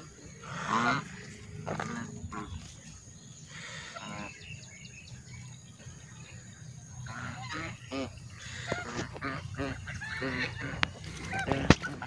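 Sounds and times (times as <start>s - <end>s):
geese calling: 0.0s - 12.0s.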